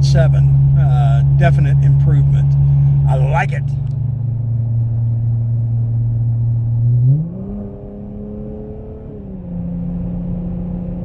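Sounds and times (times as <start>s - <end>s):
car engine droning: 0.0s - 11.0s
road noise inside car: 0.0s - 11.0s.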